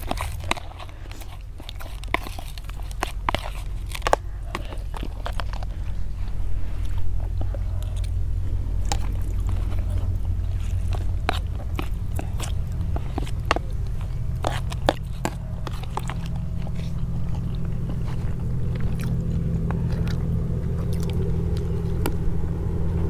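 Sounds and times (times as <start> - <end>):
spoons scraping plastic plates: 0.0 - 22.1
people chewing: 0.0 - 23.0
steady low rumble: 0.0 - 23.0.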